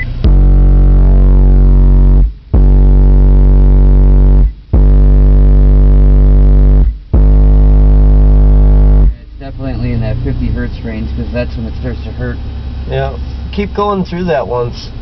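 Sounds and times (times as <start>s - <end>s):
subwoofer low test tone: 0.0s - 15.0s.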